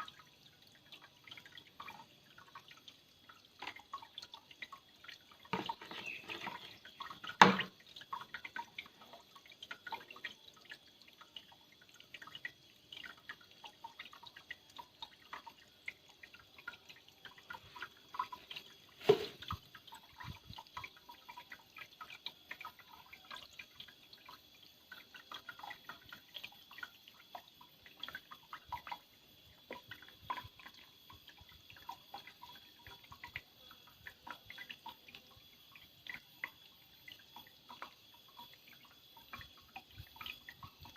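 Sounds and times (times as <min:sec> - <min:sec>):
water dripping and trickling: 0:00.0 - 0:40.9.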